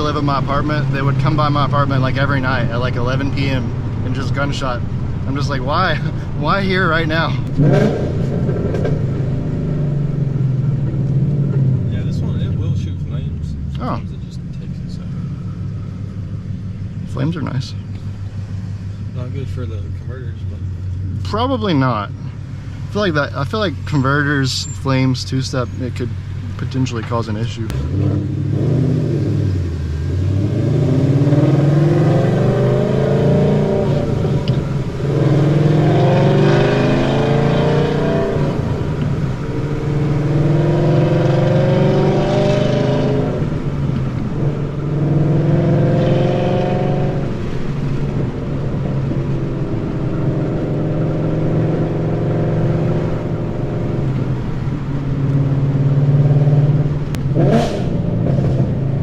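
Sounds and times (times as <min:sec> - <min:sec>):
car engine revving through gears: 0:00.0 - 0:24.4, 0:25.6 - 0:59.0.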